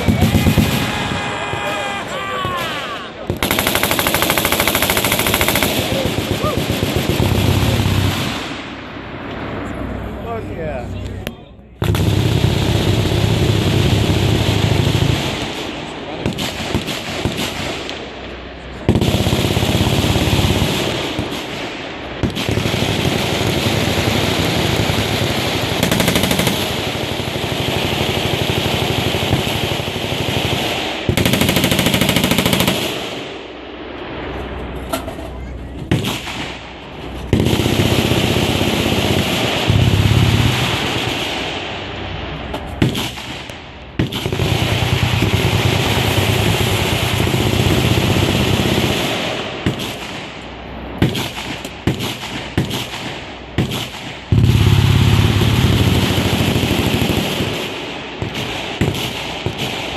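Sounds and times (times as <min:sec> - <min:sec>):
machine-gun fire: 0:00.0 - 0:01.8, 0:03.2 - 0:08.8, 0:11.8 - 0:18.2, 0:18.9 - 0:33.4, 0:35.8 - 0:50.4, 0:51.0 - 0:59.9.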